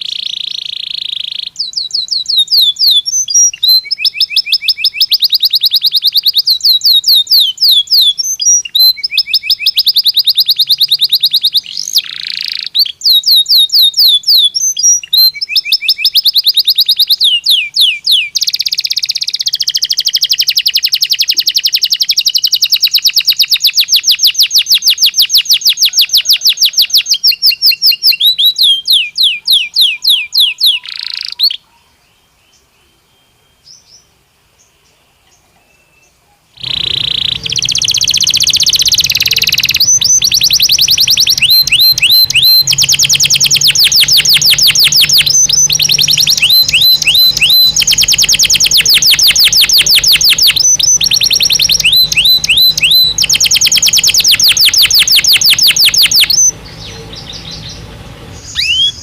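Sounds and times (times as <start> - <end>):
canary singing fast trills: 0.0 - 59.0.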